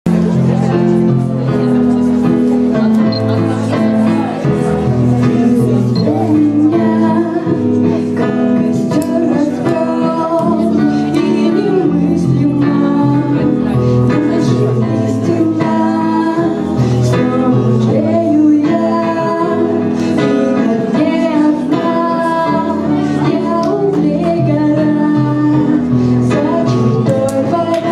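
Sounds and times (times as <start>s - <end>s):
live band with singing: 0.1s - 27.9s.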